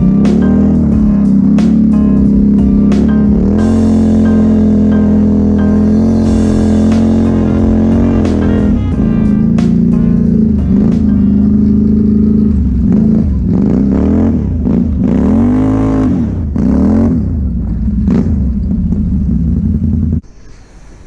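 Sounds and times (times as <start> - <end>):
atv engine revving: 0.0 - 20.2.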